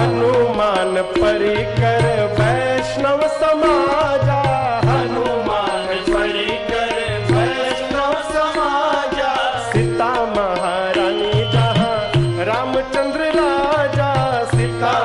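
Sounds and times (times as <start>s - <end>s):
continuous melodic line: 0.0s - 15.0s
tabla drumming: 0.0s - 15.0s.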